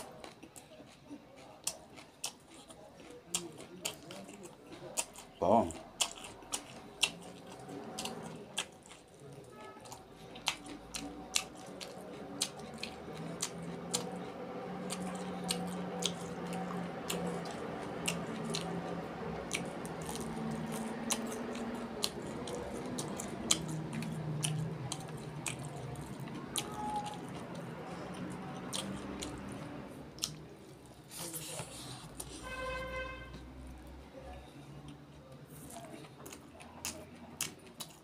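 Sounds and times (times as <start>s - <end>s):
person chewing with wet smacks: 0.0s - 33.4s, 34.3s - 38.0s.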